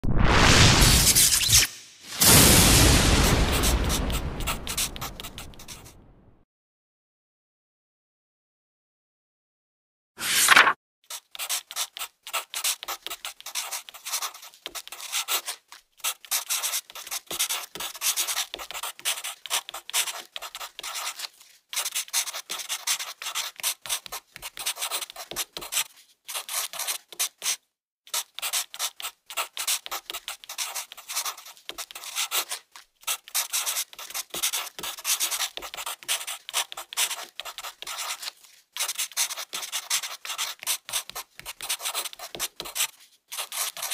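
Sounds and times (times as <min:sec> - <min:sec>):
pencil scratching on paper: 0:03.4 - 0:05.9, 0:10.2 - 0:43.9.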